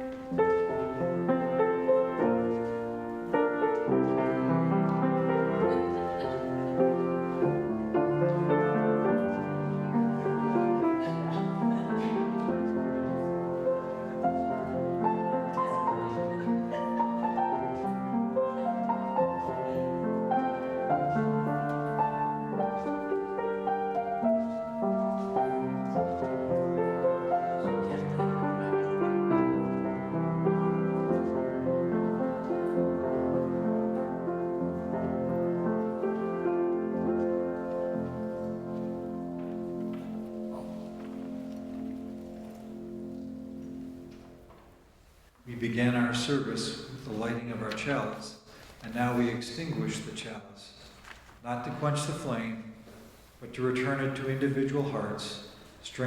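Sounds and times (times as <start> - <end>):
slow piano piece: 0.0 - 56.0.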